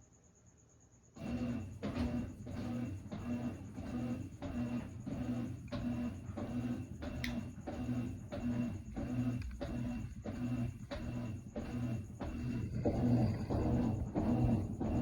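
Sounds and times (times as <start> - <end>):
washing machine motor humming: 1.2 - 15.0.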